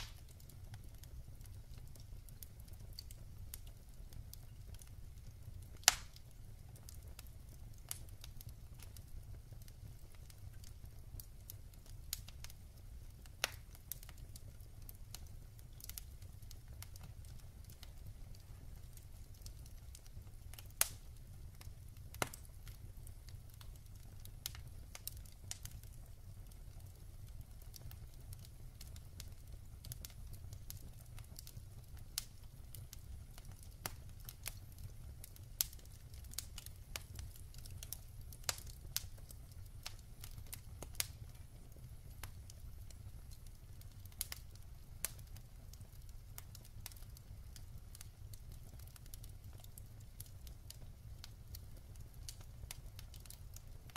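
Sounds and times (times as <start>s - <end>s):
sharp fire pops: 0.0s - 12.6s, 13.2s - 26.2s, 28.8s - 47.1s
low fire rumble: 0.0s - 53.9s
wood fire crackling: 0.0s - 53.9s.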